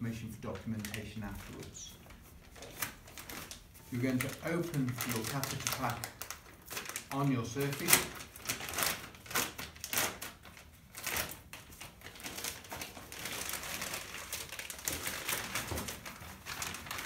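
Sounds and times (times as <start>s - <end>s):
plastic wrapping crinkling: 0.1s - 17.0s.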